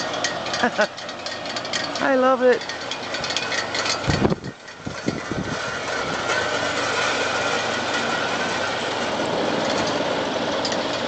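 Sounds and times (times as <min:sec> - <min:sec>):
electric fan air buffeting microphone: 0:00.0 - 0:11.0
fan rushing with thin tone: 0:00.0 - 0:11.0.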